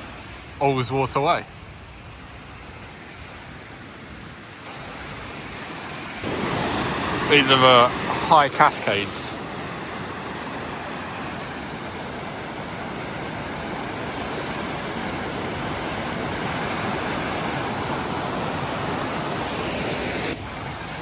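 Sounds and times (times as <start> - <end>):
water rushing down waterfall: 0.0 - 21.0.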